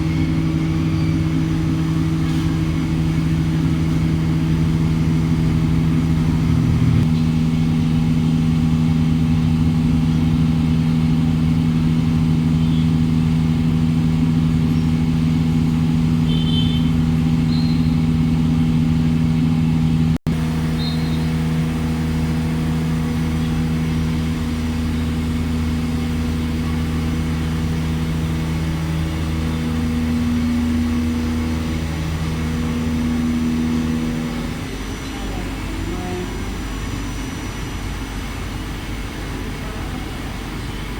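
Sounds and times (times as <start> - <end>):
machine humming: 0.0 - 40.9.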